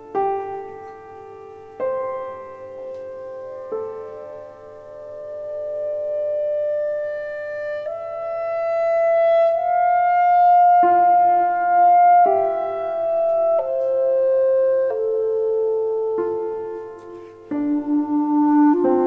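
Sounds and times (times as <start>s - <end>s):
clarinet long notes: 0.0s - 19.0s
piano chords: 0.0s - 19.0s.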